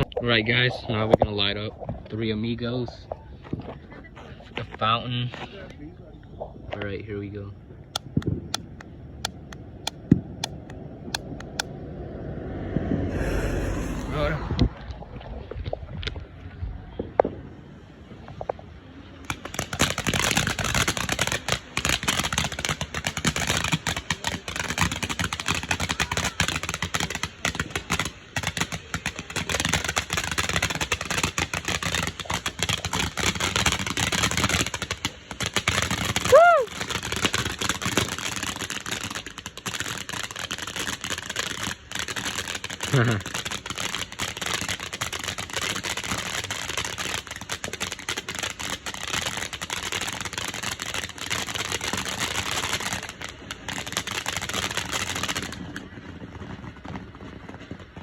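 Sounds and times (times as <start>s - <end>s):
firework fountain crackling: 0.0s - 12.2s, 12.8s - 58.0s.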